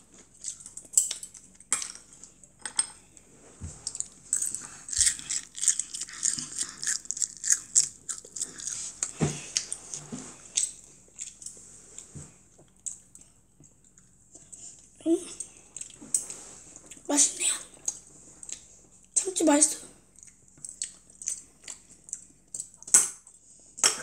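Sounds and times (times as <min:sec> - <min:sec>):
child chewing food: 0:00.1 - 0:02.5, 0:03.1 - 0:17.1, 0:17.8 - 0:19.2, 0:20.0 - 0:23.8.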